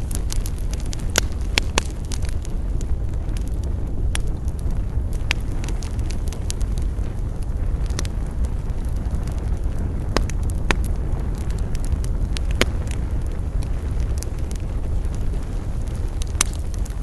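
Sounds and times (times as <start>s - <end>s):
burning wood crackling and popping: 0.0s - 17.0s
campfire low rumble: 0.0s - 17.0s.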